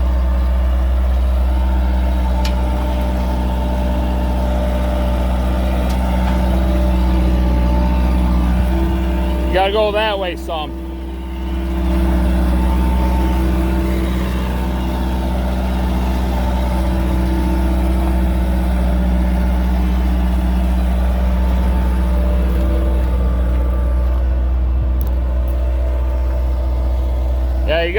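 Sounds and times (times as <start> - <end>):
vehicle engine humming: 0.0 - 27.9.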